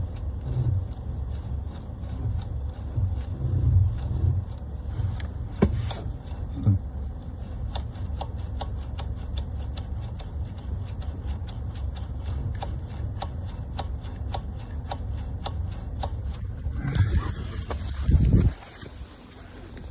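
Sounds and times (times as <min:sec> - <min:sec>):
low steady hum: 0:00.0 - 0:19.9
power steering clicking: 0:00.1 - 0:19.9.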